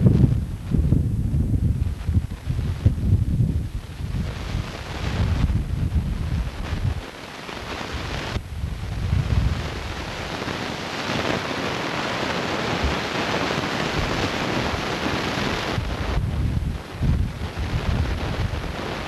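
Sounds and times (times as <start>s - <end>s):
wind blowing across microphone: 0.0s - 19.0s.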